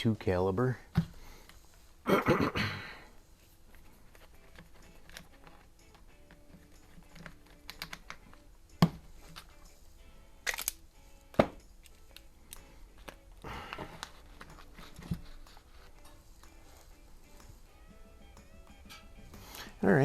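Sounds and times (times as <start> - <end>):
faint music: 0.0 - 20.0.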